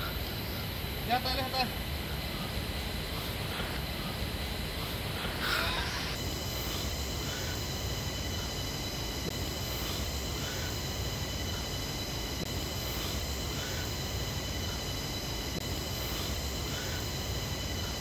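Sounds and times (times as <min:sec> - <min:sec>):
high-pitched whining tones: 0:00.0 - 0:18.0.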